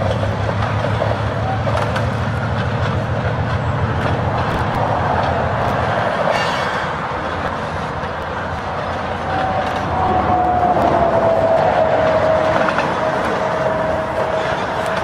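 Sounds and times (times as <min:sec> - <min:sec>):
faint rail joint clicks: 0:00.0 - 0:15.0
model train wheels rumbling: 0:00.0 - 0:15.0.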